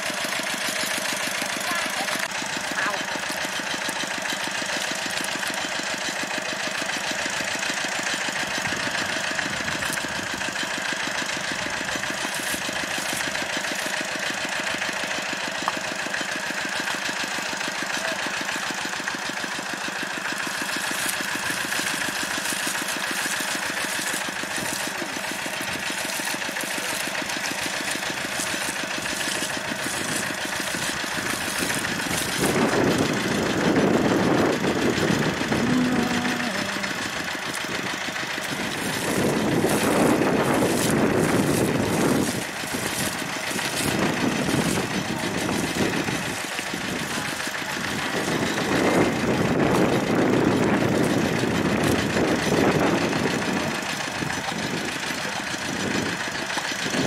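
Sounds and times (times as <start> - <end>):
pump engine knocking: 0.0 - 57.0.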